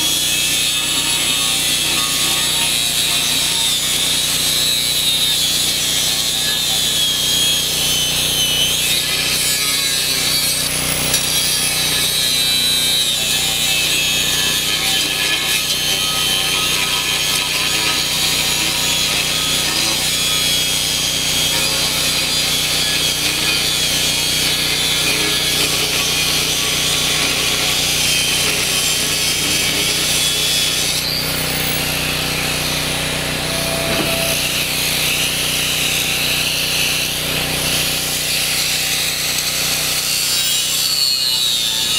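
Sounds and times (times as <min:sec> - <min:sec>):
angle grinder cutting steel: 0:00.0 - 0:41.9.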